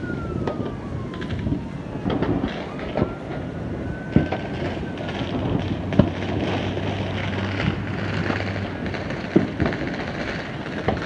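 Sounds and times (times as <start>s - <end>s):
city noise: 0.0s - 11.0s
distant fireworks bangs: 0.0s - 11.0s
wind on microphone: 0.0s - 11.0s.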